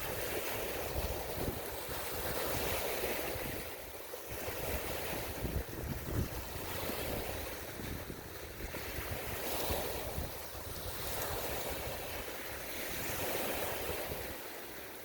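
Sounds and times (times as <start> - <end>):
wind rumbling on microphone: 0.0 - 14.9
waves washing in: 0.0 - 15.0.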